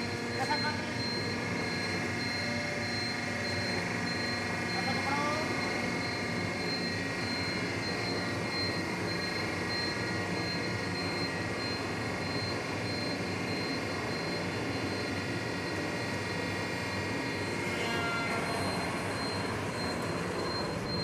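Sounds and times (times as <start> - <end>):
factory machinery drone: 0.0 - 21.0.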